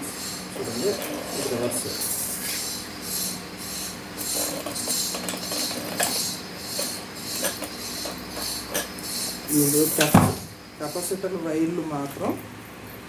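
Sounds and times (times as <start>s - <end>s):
ceiling fan motor humming: 0.0s - 13.0s.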